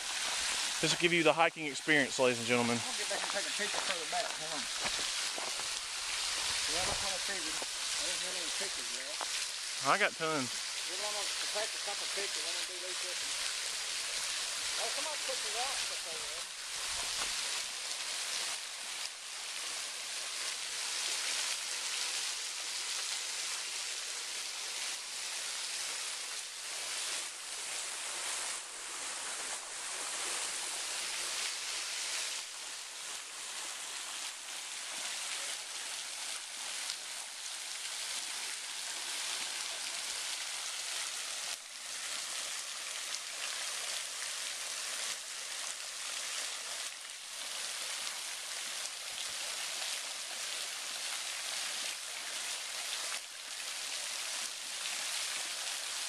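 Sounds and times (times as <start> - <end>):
rushing falling water: 0.0 - 56.0.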